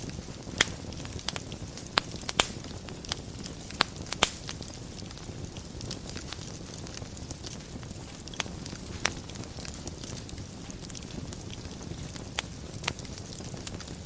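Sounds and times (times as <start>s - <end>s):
fire crackling and popping: 0.0s - 14.0s
fire low rumble: 0.0s - 14.0s.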